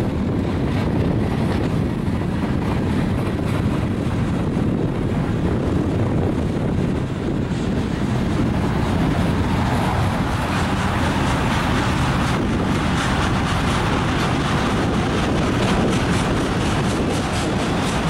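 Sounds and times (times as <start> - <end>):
steel wheels on rails: 0.0 - 18.0
wind buffeting microphone: 0.0 - 18.0.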